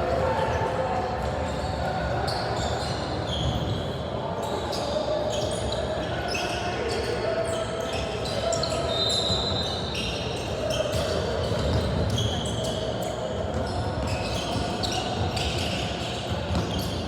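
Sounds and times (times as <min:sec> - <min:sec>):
murmur of players and spectators: 0:00.0 - 0:17.0
sneakers squeaking on court: 0:00.4 - 0:17.0.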